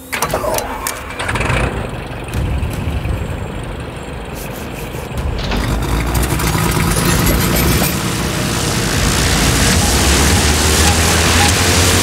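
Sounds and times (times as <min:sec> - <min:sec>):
plane engine revving: 0:00.0 - 0:12.0.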